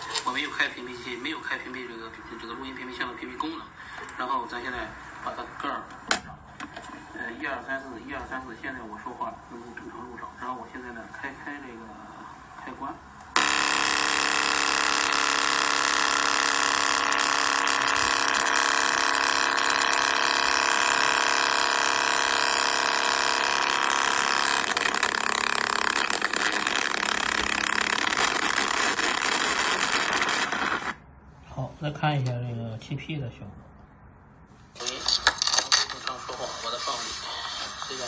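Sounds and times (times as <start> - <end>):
loud steady electronic noise: 0.0 - 31.4, 34.2 - 38.0.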